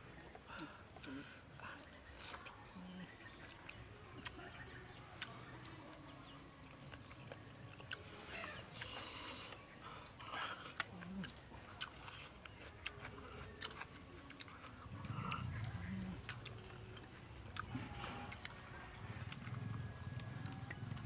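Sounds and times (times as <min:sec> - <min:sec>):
chewing and sucking snails: 0:00.1 - 0:21.0.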